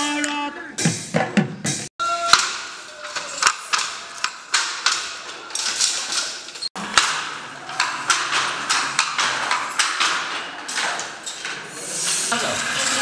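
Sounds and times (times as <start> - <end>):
wooden loom clacking: 2.1 - 13.0.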